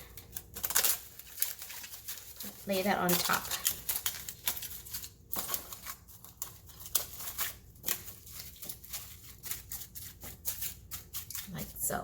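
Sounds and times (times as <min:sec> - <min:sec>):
cling wrap crackling: 0:00.0 - 0:12.0.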